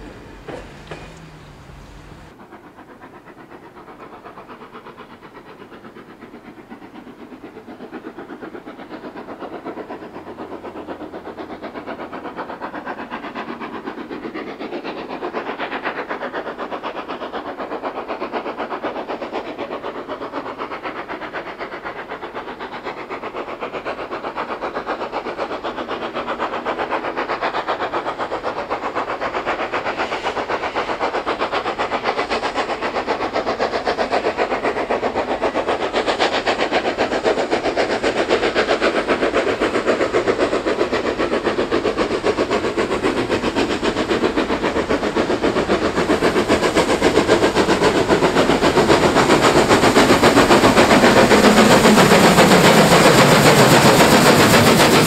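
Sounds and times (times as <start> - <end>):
steam locomotive exhaust chuffs: 0.0 - 55.0.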